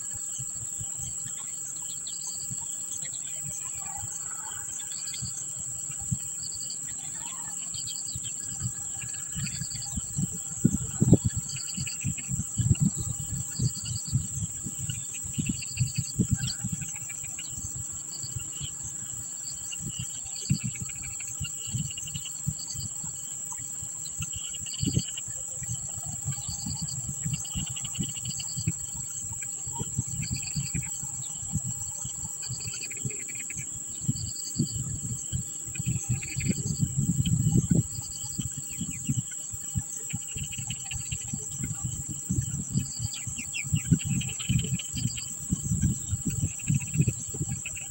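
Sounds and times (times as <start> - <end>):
crickets chirping: 0.0 - 47.9
faint bird chirps: 0.0 - 47.9
insects droning: 0.0 - 47.9.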